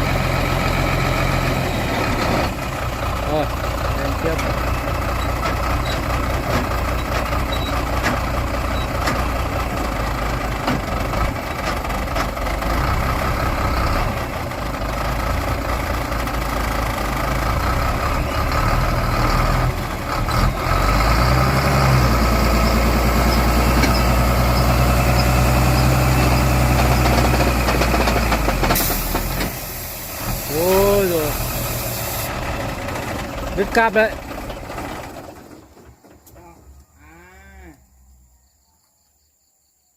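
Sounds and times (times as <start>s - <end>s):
diesel engine labouring: 0.0s - 36.9s.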